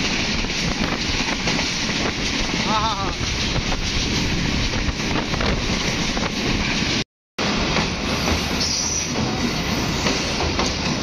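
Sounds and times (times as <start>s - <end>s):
train wheels rumbling on rails: 0.0s - 11.0s
wind: 0.0s - 11.0s.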